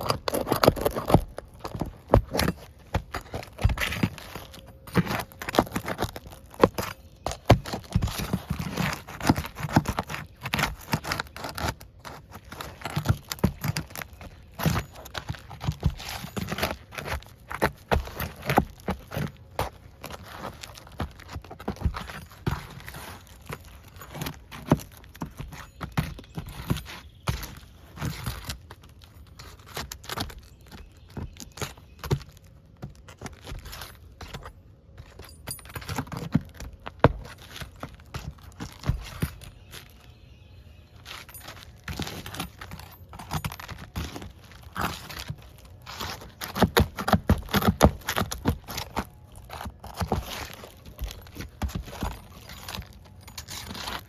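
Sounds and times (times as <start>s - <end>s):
knocks and scrapes of handling: 0.0s - 54.0s.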